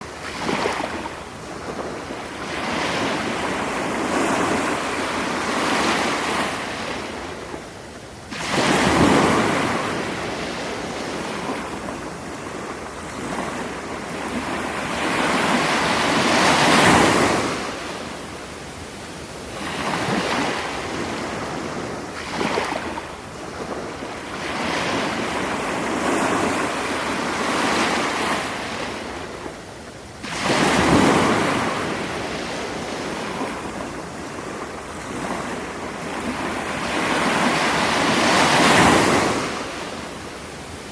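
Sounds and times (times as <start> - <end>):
sea waves breaking on beach: 0.0 - 40.9.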